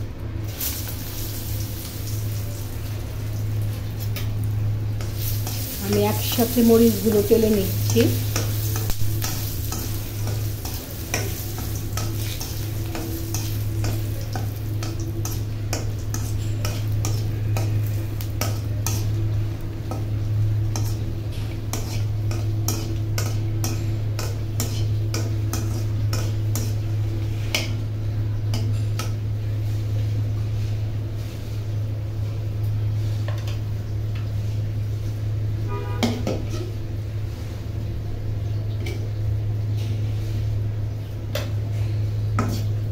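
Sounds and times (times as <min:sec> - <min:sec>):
chillies sizzling in oil: 0:00.0 - 0:42.9.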